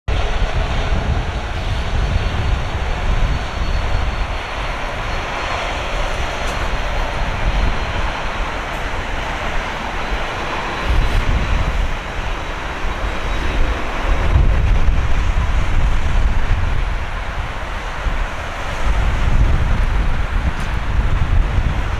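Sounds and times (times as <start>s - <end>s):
jet engines droning: 0.1s - 21.9s
wind buffeting microphone: 0.1s - 21.9s.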